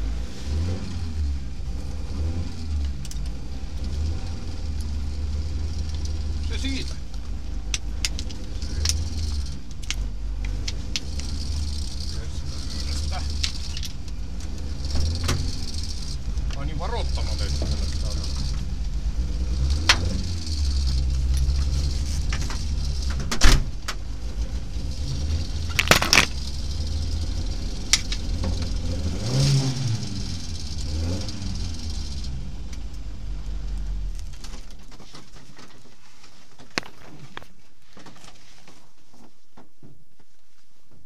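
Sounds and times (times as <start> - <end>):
car engine idling and revving: 0.0 - 37.6.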